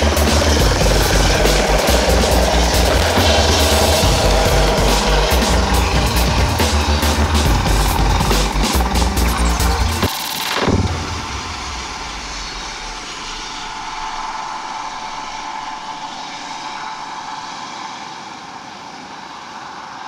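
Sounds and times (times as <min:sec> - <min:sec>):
helicopter rotor and engine: 0:00.0 - 0:20.0.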